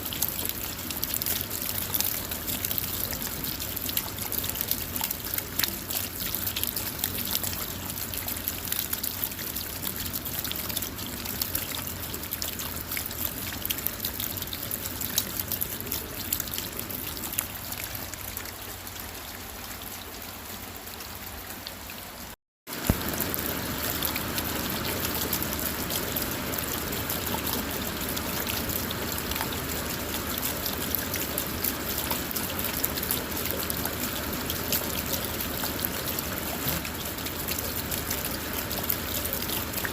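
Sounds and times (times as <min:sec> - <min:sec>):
rain patter on a car: 0:00.0 - 0:39.9
trickling water: 0:00.0 - 0:39.9.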